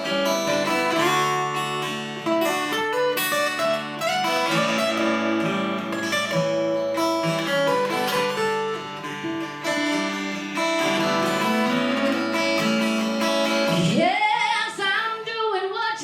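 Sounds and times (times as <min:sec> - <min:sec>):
acoustic guitar strumming: 0:00.0 - 0:15.4.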